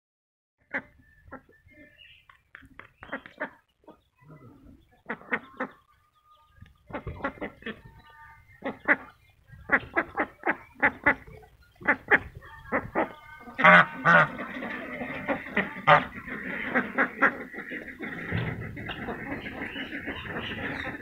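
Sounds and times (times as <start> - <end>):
ducks quacking: 0.6 - 21.0.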